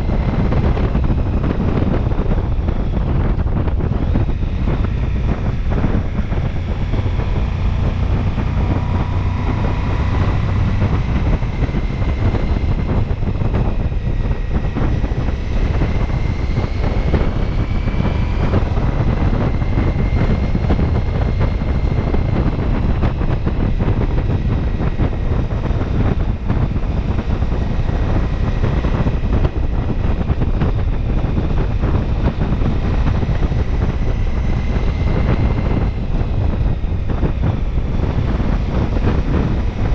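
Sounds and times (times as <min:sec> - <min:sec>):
motorcycle engine: 0:00.0 - 0:39.9
road noise: 0:00.0 - 0:39.9
wind buffeting microphone: 0:00.0 - 0:39.9.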